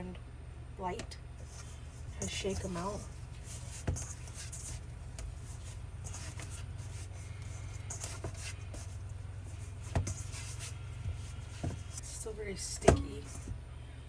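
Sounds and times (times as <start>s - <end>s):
steady low hum: 0.0s - 14.0s
hands kneading dough: 1.4s - 13.6s.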